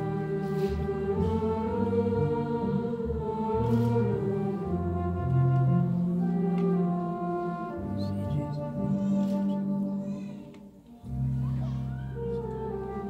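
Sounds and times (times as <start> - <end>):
singers holding long notes: 0.0 - 13.0.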